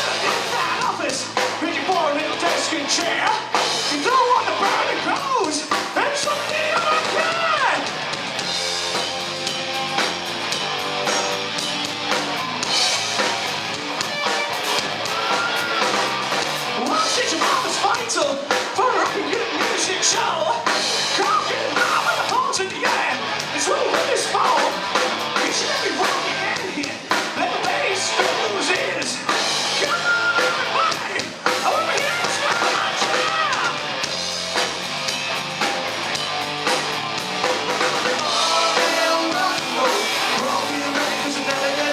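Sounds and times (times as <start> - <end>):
rock band playing: 0.0 - 41.9
wavering electric guitar lead: 0.0 - 41.9.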